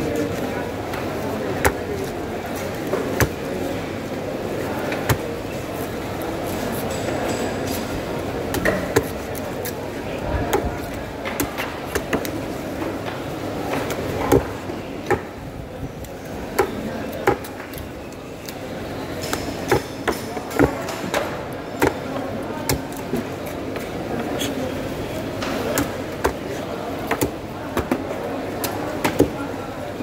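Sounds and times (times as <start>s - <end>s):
murmur of background voices: 0.0s - 30.0s.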